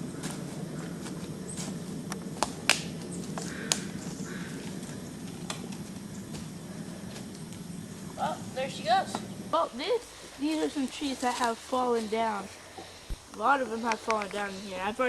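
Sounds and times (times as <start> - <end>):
leaves and twigs crunching underfoot: 0.0 - 9.2, 10.2 - 15.0
low background noise: 0.0 - 15.0.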